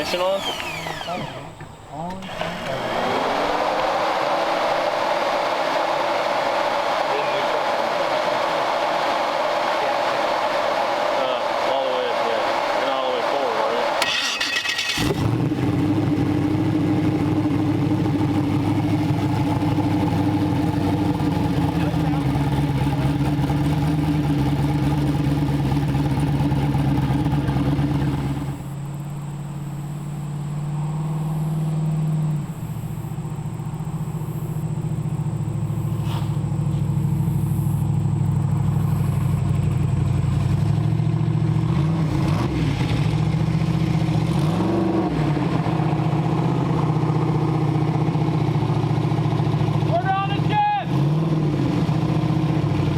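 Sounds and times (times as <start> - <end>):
car engine idling: 0.0 - 52.9
engine throttle blips: 0.0 - 52.9.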